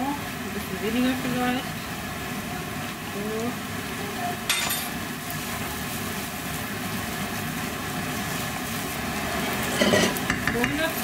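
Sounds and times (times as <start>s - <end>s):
extractor hood fan running: 0.0s - 11.0s.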